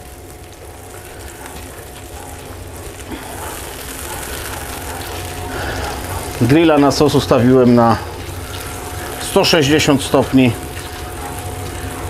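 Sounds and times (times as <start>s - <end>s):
butter sizzling in a pan: 0.0s - 12.0s
steady low hum: 0.0s - 12.0s.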